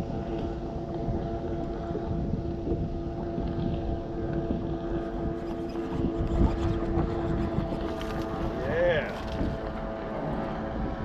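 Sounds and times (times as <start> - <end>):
boat motor humming: 0.0 - 11.0
wind rumble on microphone: 0.0 - 11.0.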